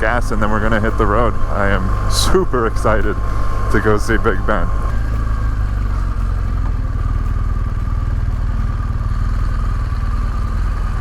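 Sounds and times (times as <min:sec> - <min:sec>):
faint steady whine: 0:00.0 - 0:11.0
motorcycle engine running: 0:00.0 - 0:11.0.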